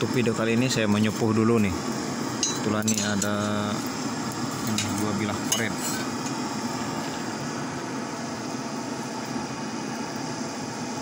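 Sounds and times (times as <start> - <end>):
forge fire roaring: 0.0 - 11.0.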